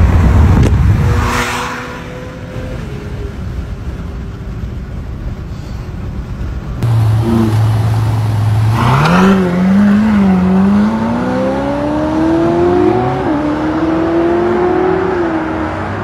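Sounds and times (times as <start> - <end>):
road noise inside moving car: 0.0 - 16.0
sports car engine idling and revving: 0.0 - 16.0.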